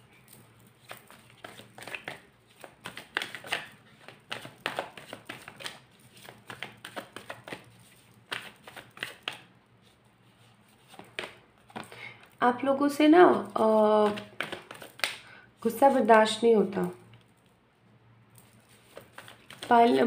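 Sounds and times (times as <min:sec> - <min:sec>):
cards being shuffled: 0:00.1 - 0:12.4, 0:13.3 - 0:17.0, 0:18.4 - 0:20.0.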